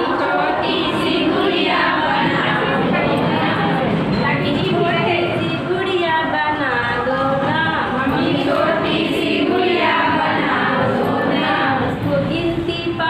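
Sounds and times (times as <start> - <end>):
group of women singing: 0.0 - 12.9.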